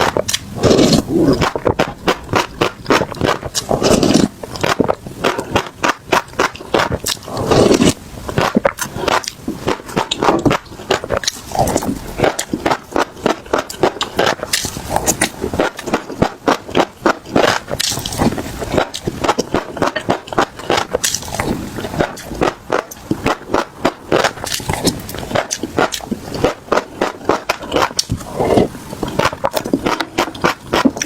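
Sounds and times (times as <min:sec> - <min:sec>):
chewing crunchy seeds: 0:00.0 - 0:31.0
mouth sounds: 0:00.0 - 0:31.0.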